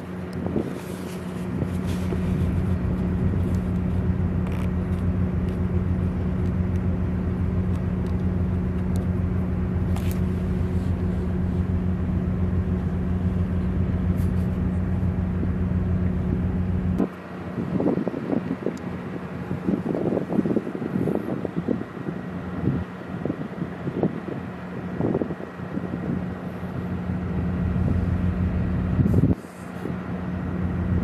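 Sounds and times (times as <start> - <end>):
ship machinery humming: 0.0 - 31.0.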